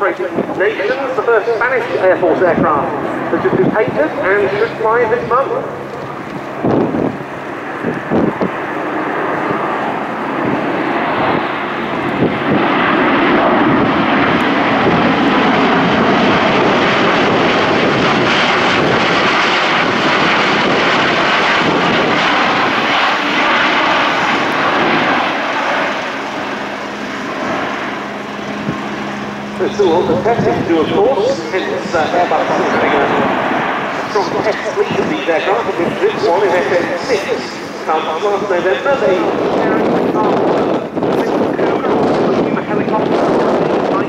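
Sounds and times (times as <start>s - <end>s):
turboprop aircraft passing overhead: 0.0s - 44.0s.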